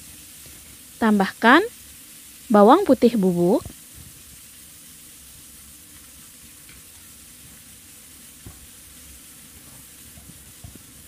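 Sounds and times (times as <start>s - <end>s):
pasta sizzling in a pan: 0.0s - 11.0s.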